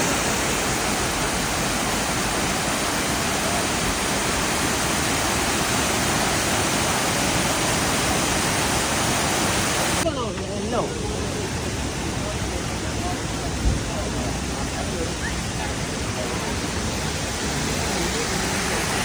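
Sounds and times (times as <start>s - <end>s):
waterfall rushing: 0.0s - 10.1s, 10.9s - 19.0s.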